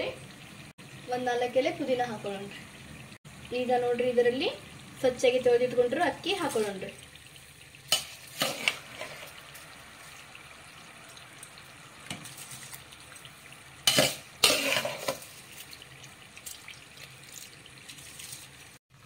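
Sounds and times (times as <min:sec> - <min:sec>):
water boiling: 0:00.0 - 0:19.0.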